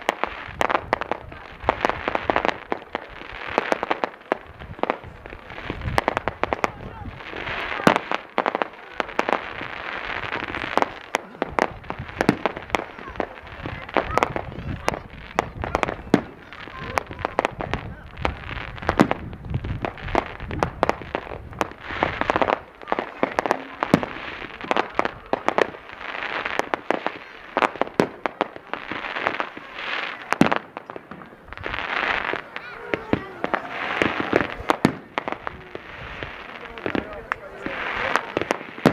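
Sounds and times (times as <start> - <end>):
fireworks bangs: 0.0 - 38.9
onlookers' voices: 0.0 - 38.9.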